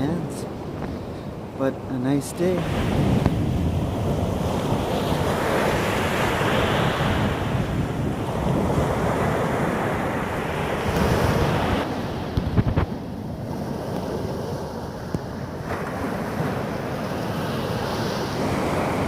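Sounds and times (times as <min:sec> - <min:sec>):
waves breaking on shore: 0:00.0 - 0:19.0
wind buffeting microphone: 0:02.4 - 0:19.0.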